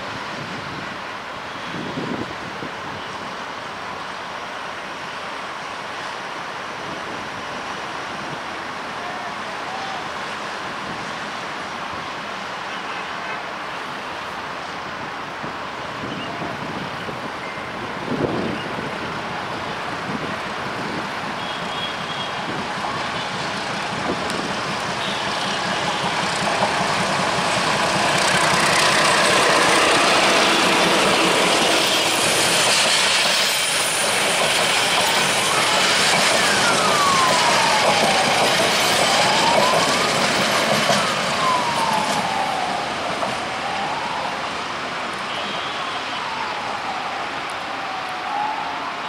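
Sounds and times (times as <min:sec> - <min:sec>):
diesel train passing: 0:00.0 - 0:49.0
train coaches rumbling and clattering: 0:04.8 - 0:45.3.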